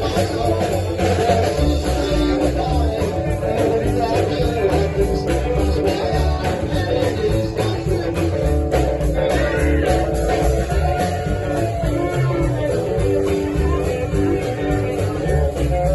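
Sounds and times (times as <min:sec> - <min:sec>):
rock and roll band playing: 0:00.0 - 0:15.9.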